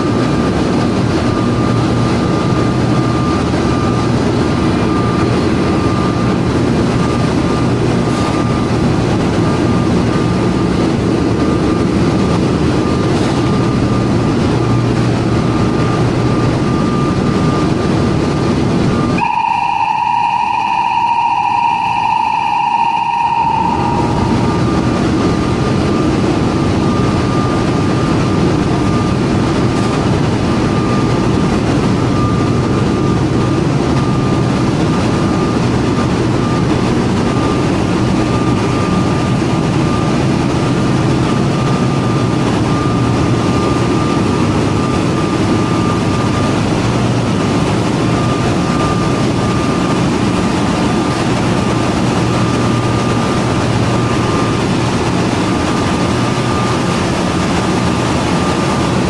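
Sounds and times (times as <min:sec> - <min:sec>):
engine room machinery drone: 0:00.0 - 0:59.0
high whine: 0:00.0 - 0:59.0.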